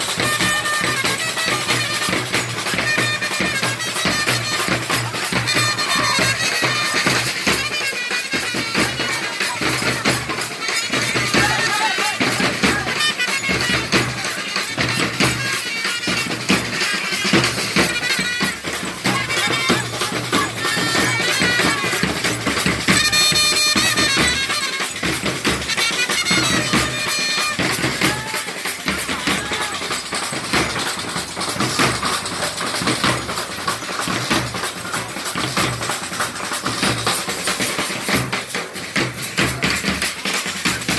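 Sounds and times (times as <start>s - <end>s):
large drums beaten with sticks: 0.0s - 40.9s
wind instrument melody: 0.0s - 40.9s.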